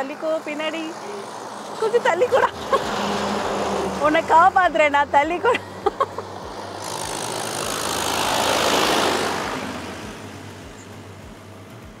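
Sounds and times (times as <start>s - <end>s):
low engine hum: 0.0s - 12.0s
tractor passing by: 0.0s - 12.0s.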